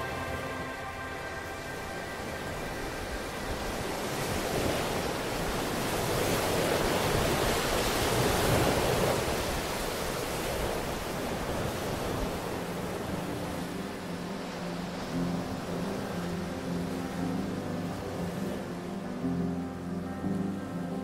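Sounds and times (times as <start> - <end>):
ocean surf waves: 0.0 - 21.0.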